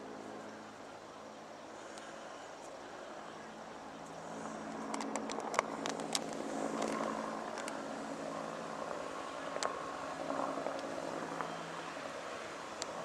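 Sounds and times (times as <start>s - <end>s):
propeller aircraft droning: 0.0s - 13.0s.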